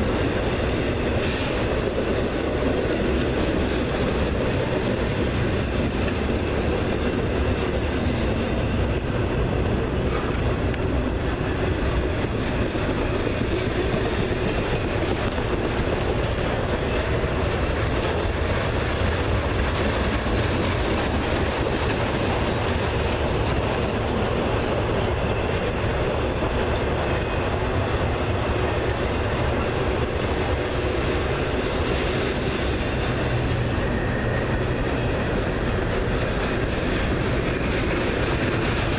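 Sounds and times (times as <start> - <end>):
train rolling along rails: 0.0 - 38.9.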